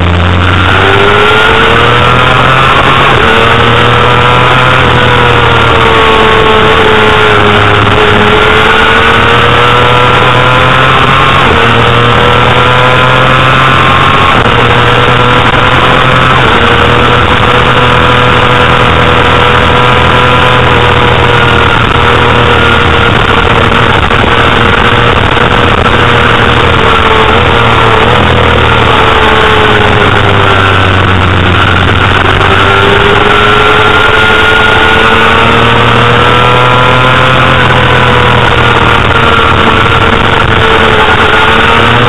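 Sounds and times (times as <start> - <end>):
motorcycle engine at high revs: 0.0 - 42.0
rushing wind noise: 0.0 - 42.0.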